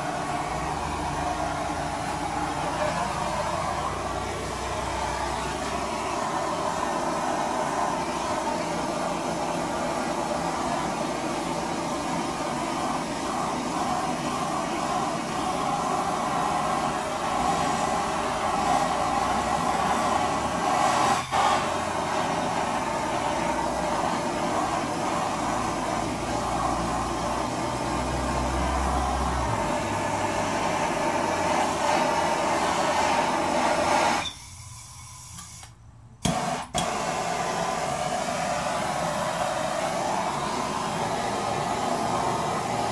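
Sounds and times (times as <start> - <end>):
blowtorch flame hissing: 0.0 - 42.9.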